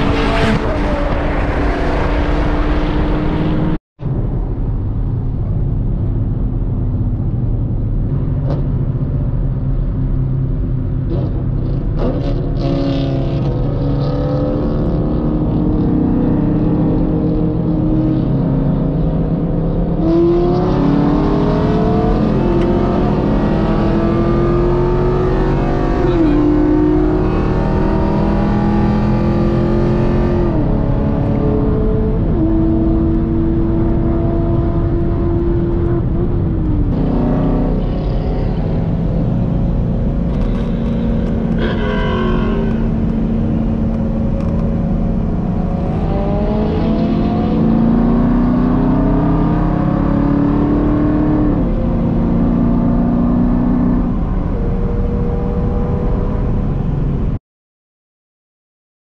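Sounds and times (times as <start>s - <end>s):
car engine accelerating: 0.0s - 3.8s, 7.6s - 57.3s
road and wind noise: 0.0s - 57.4s.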